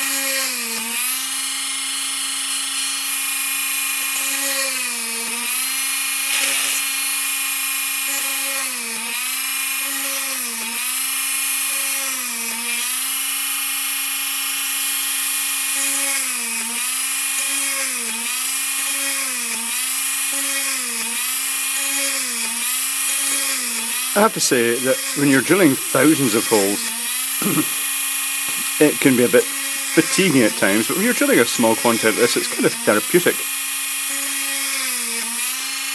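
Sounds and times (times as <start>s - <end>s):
mini drill whining: 0.0s - 35.9s.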